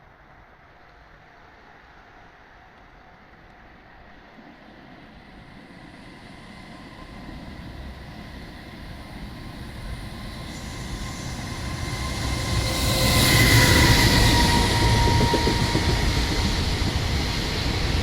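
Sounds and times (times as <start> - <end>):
train rumble and rail noise: 0.0 - 18.0.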